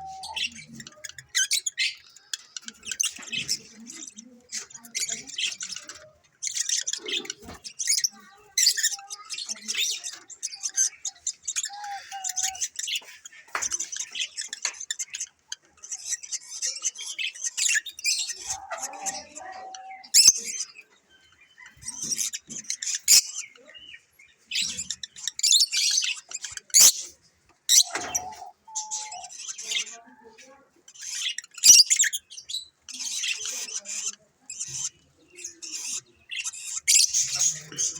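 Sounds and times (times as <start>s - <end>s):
lovebirds chattering and chirping: 0.0s - 37.9s.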